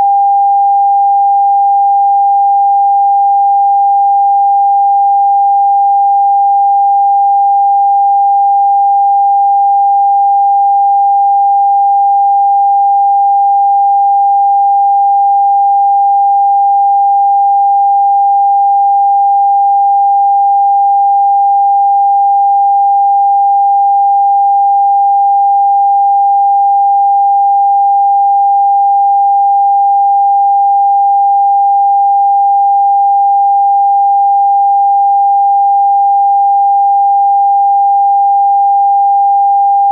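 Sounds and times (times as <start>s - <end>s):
steady sine tone: 0.0s - 34.4s.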